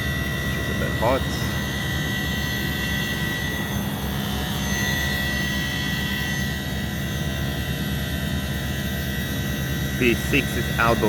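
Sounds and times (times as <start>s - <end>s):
air conditioner unit humming: 0.0s - 11.0s
high whine: 0.0s - 11.0s.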